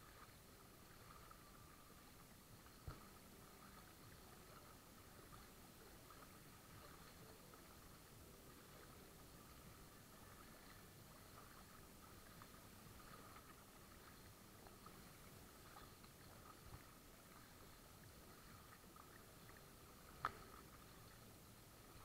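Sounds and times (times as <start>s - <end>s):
kayak moving through water: 0.0s - 22.0s
small splashes: 0.0s - 22.0s.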